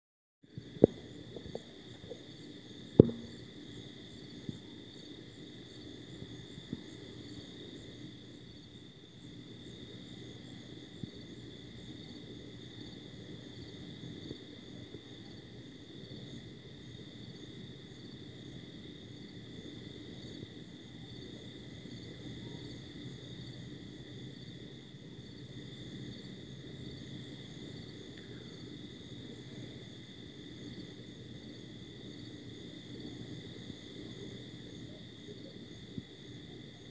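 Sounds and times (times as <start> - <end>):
crickets chirping: 0.5 - 36.9.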